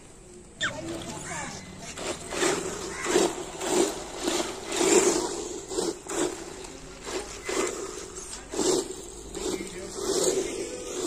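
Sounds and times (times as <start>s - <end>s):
tyres scraping over grit: 0.6s - 11.0s.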